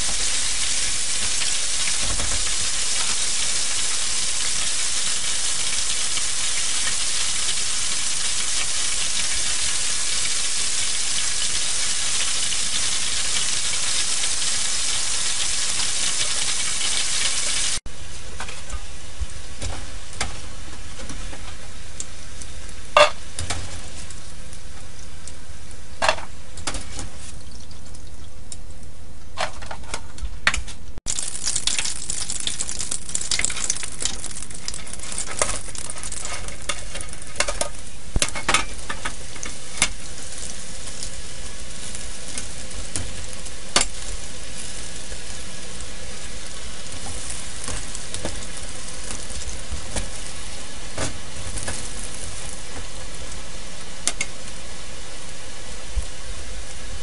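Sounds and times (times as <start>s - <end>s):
chicken deep-frying in hot oil: 0.0s - 57.0s.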